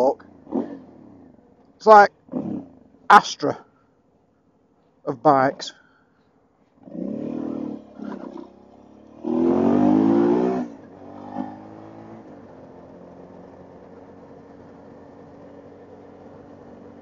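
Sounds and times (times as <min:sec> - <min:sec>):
motorcycle engine revving: 0:00.0 - 0:03.7, 0:06.6 - 0:17.0.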